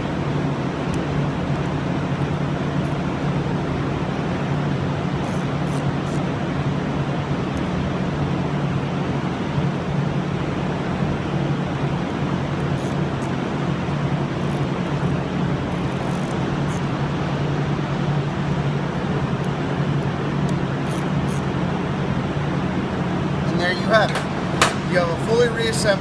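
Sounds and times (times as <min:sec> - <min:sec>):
workshop hum and rumble: 0:00.0 - 0:26.0.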